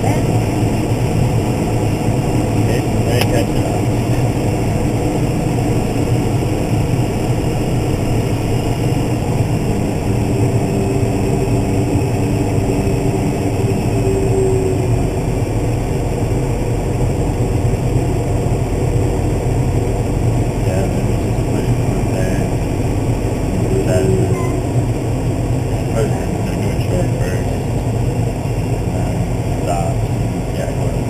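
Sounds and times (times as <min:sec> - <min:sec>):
faint whine: 0:00.0 - 0:31.0
tractor diesel engine drone: 0:00.0 - 0:31.0.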